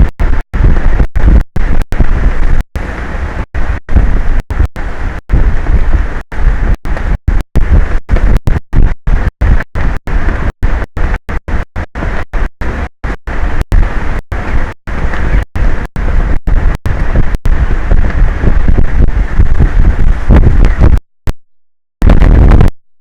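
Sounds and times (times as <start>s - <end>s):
wind buffeting microphone: 0.0s - 21.0s, 22.0s - 22.7s.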